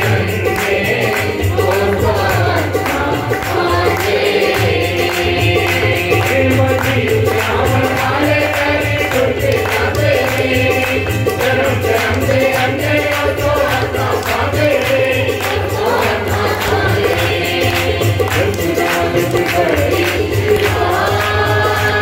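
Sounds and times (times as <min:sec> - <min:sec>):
man singing: 0:00.0 - 0:03.8, 0:05.0 - 0:16.8, 0:18.2 - 0:20.8
hand clapping: 0:00.0 - 0:22.0
harmonium: 0:00.0 - 0:22.0
tabla drumming: 0:00.0 - 0:22.0.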